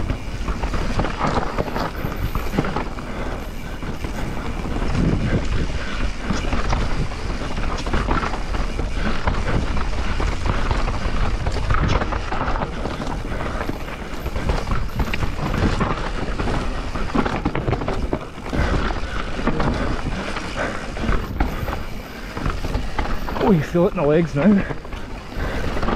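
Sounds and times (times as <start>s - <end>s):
wind noise on microphone: 0.0s - 23.5s
bike rattling and knocking: 0.0s - 25.9s
bike tyres rolling over stones: 0.0s - 25.9s.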